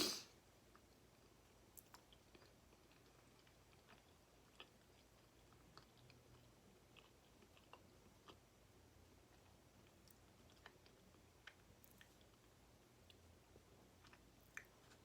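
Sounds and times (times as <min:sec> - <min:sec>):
faint wet chewing: 0:00.7 - 0:15.0.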